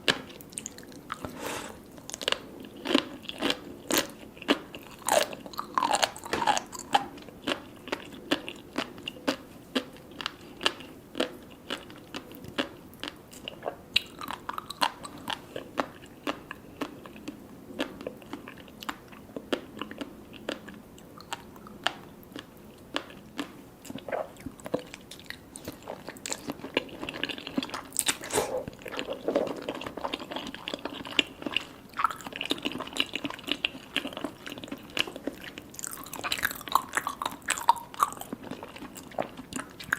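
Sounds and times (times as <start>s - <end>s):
close-miked chewing crunches: 0.3s - 39.9s.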